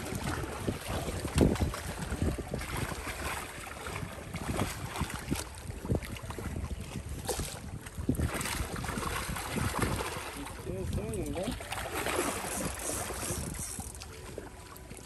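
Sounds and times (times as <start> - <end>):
wind buffeting microphone: 0.0 - 14.5
water splashing: 0.0 - 15.0.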